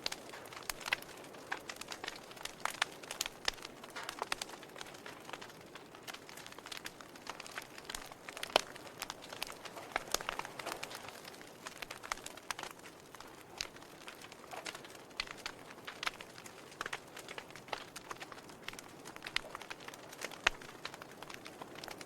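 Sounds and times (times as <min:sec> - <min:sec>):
fire popping: 0:00.0 - 0:22.0
soft steady hiss: 0:00.0 - 0:22.0
wood fire crackling: 0:00.0 - 0:22.0.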